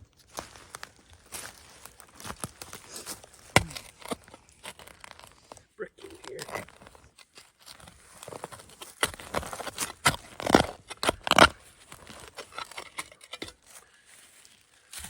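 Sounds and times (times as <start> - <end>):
scraping through dirt and debris: 0.0 - 15.0
sharp scrapes and crackles: 0.3 - 15.0.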